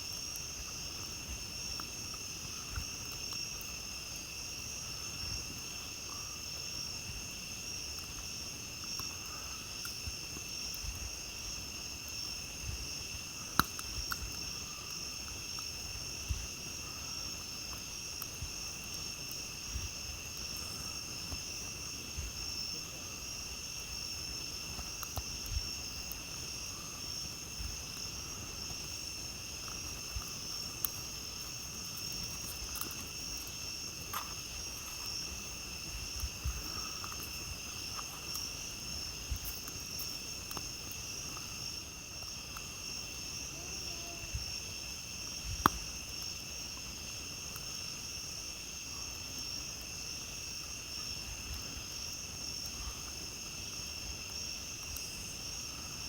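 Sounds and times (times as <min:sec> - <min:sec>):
campfire crackles and pops: 0:00.0 - 0:56.0
crickets trilling: 0:00.0 - 0:56.0.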